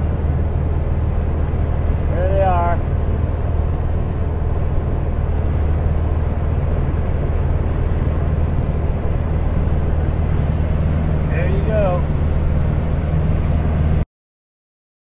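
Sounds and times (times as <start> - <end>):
aircraft engine drone: 0.0 - 14.0
wind noise: 0.0 - 14.0.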